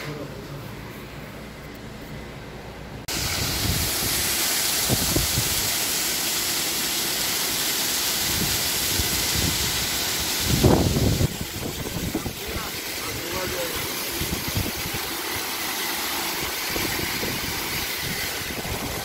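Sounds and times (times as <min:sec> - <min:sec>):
water gushing into a tank: 0:03.1 - 0:19.0.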